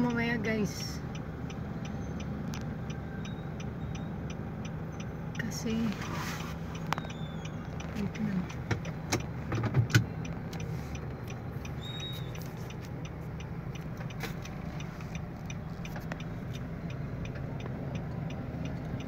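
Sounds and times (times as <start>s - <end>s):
car engine and road noise: 0.0s - 19.0s
turn signal ticking: 0.0s - 19.0s.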